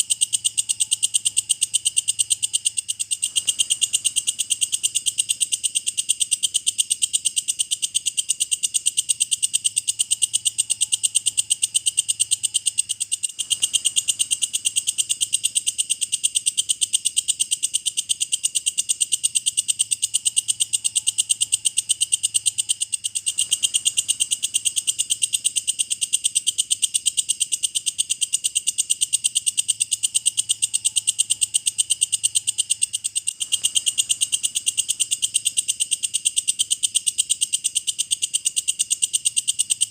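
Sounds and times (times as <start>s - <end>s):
bush cricket chirping: 0.0s - 39.9s.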